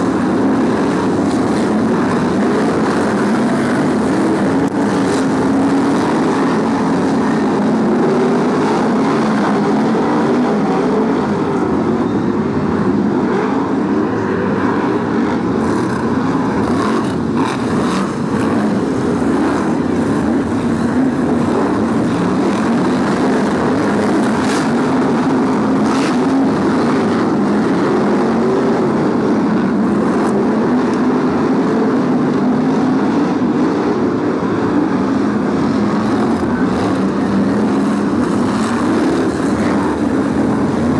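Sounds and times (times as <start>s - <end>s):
race car engines running hard: 0.0s - 40.9s.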